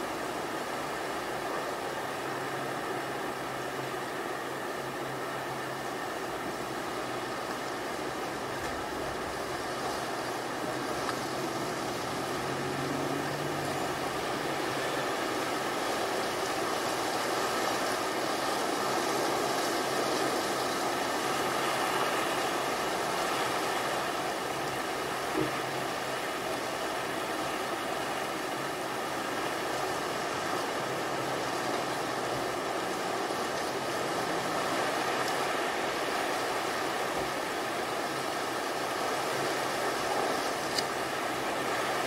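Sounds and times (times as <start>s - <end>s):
distant surf washing in: 0.0s - 42.0s.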